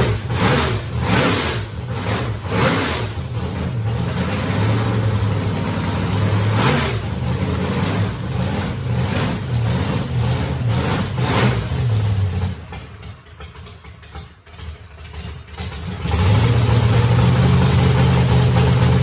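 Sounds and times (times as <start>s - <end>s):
race car engine idling: 0.0s - 19.0s.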